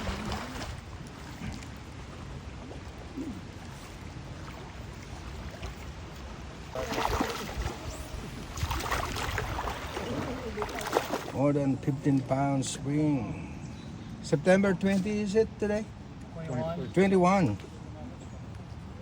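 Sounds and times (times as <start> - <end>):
river water flowing: 0.0 - 18.5.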